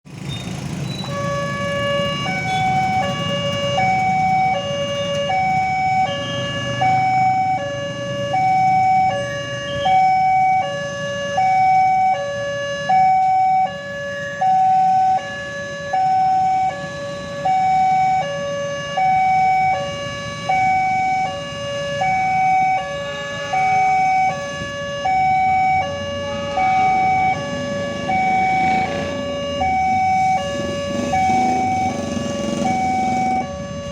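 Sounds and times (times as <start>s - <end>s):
level crossing two-tone alarm: 1.5s - 33.9s.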